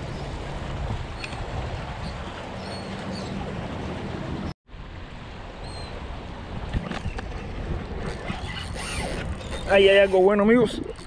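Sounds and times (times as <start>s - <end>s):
wind on microphone: 0.0s - 4.5s, 5.6s - 11.0s.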